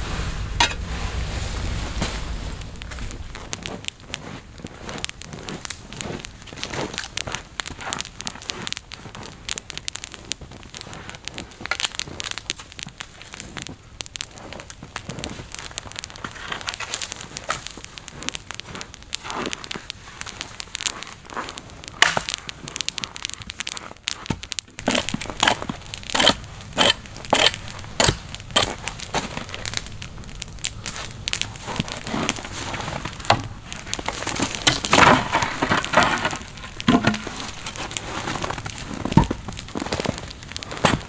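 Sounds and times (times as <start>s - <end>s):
campfire crackling: 0.0s - 41.0s.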